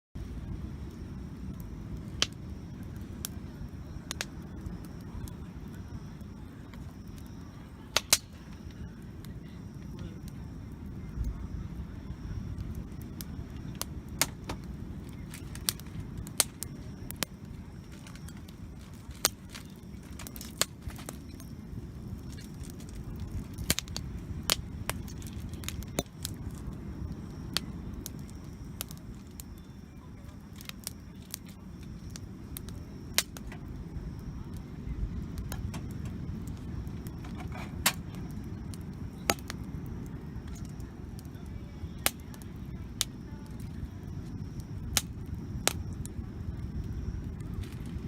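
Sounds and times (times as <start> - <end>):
campfire crackling: 0.2 - 48.0
fire pops and snaps: 0.4 - 48.0.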